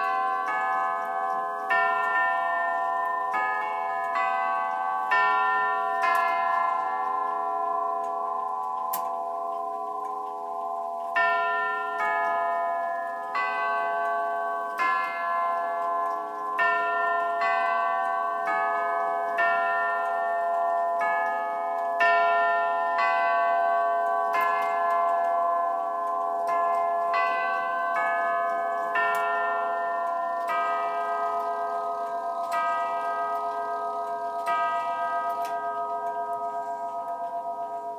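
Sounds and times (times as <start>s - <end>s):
chime tubes ringing: 0.0s - 37.9s.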